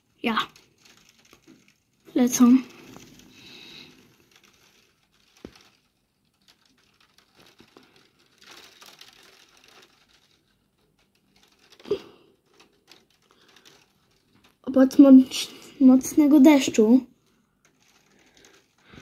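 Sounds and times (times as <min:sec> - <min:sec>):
rain patter and crackle: 0:00.0 - 0:19.0.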